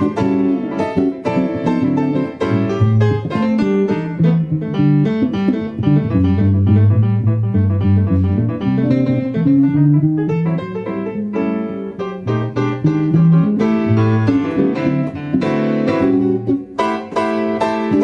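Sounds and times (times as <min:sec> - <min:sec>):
blues piano: 0:00.0 - 0:18.0
guitar: 0:00.0 - 0:18.0.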